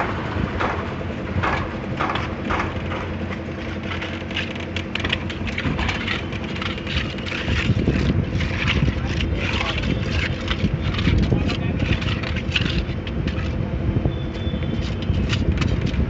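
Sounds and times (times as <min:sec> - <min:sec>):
steady engine drone: 0:00.0 - 0:16.0.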